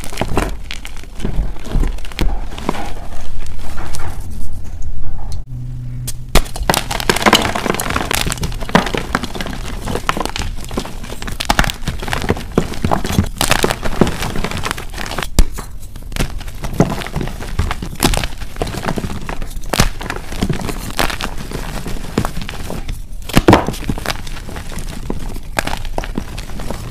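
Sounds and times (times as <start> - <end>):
chalk crunching and crumbling: 0.0 - 4.7, 6.4 - 26.9.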